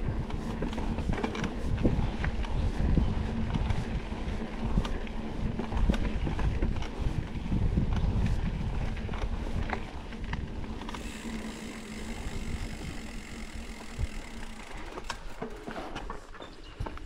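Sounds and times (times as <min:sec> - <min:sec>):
low hum: 0:00.0 - 0:16.4
bike rattling over bumps: 0:00.0 - 0:17.0
bike tyres on dirt: 0:00.0 - 0:17.0.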